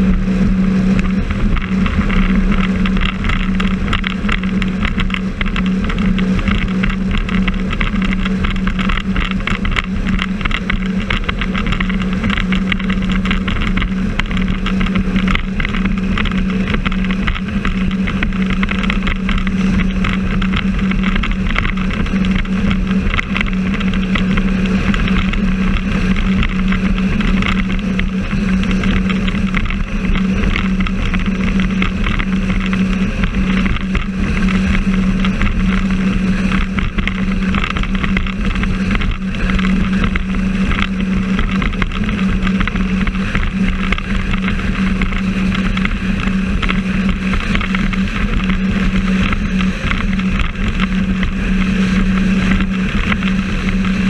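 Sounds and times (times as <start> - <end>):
jet ski engine running: 0.0 - 54.0
water rushing noise: 0.0 - 54.0.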